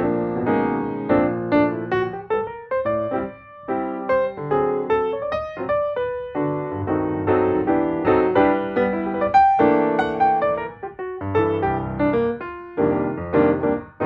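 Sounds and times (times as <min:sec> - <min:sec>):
piano notes and chords: 0:00.0 - 0:14.0.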